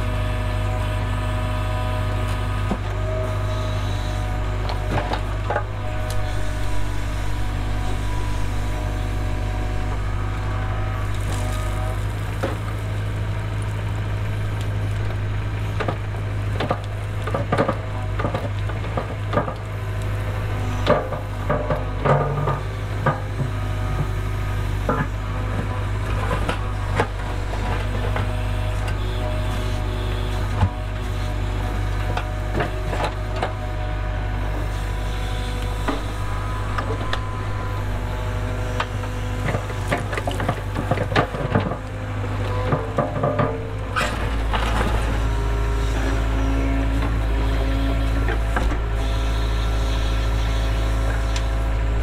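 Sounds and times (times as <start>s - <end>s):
knocks and clatters of work: 0.0s - 13.7s, 14.5s - 52.0s
excavator diesel engine running: 0.0s - 52.0s.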